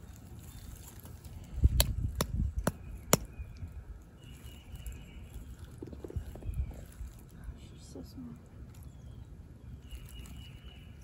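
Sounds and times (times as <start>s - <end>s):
low rustling handling noise: 0.0s - 9.0s.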